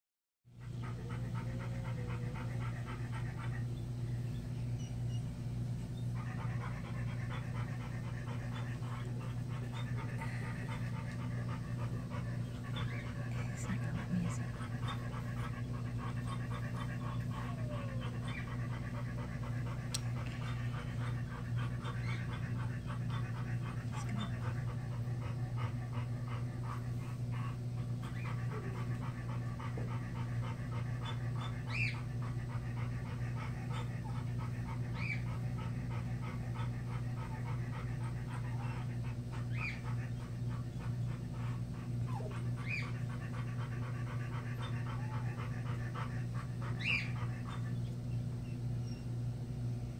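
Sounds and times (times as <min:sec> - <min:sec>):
dog panting: 0:00.5 - 0:49.9
steady low hum: 0:00.5 - 0:49.9
dog whimpering: 0:00.7 - 0:03.8, 0:06.0 - 0:49.2.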